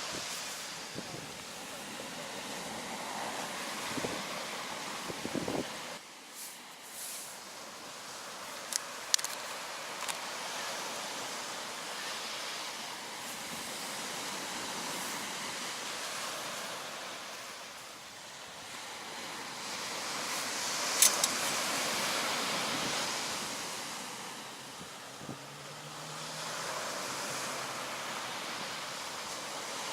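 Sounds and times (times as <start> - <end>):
sea waves washing on shore: 0.0 - 29.9.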